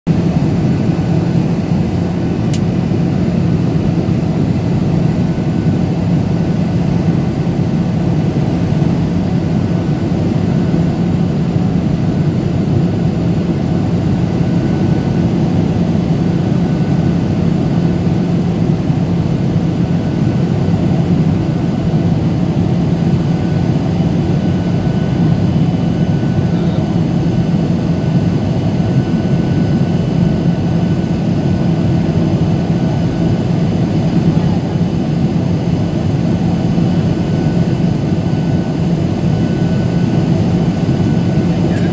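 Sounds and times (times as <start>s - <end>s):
jet cabin engine drone: 0.1s - 41.9s.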